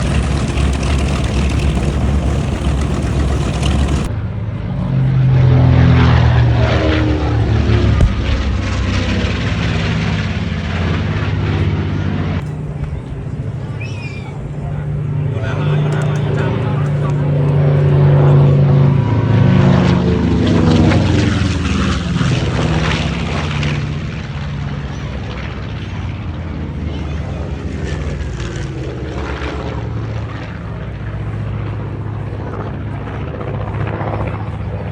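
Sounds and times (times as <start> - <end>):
piston aircraft engines droning: 0.0 - 34.9.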